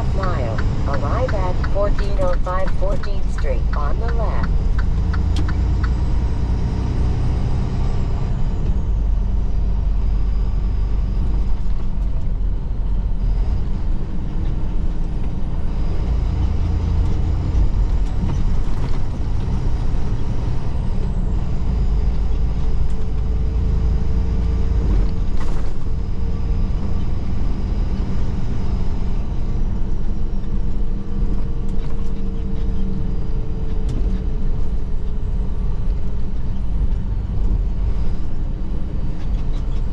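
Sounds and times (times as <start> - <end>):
diesel truck engine rumble: 0.0 - 39.9
road noise: 0.0 - 39.9.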